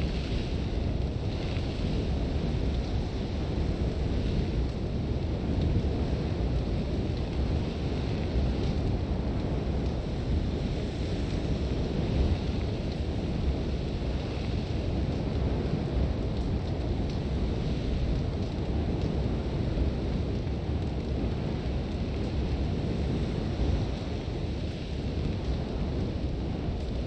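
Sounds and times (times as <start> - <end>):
strong wind rumbling: 0.0 - 27.0.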